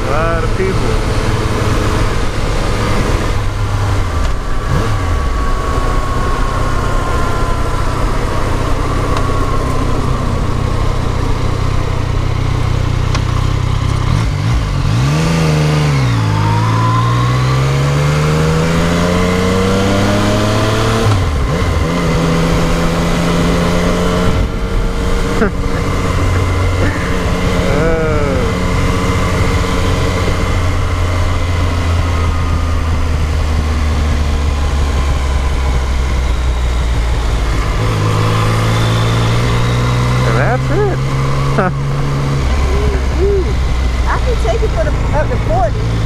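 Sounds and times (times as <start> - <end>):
motorcycle engine running: 0.0 - 46.0
rush of wind: 0.0 - 46.0.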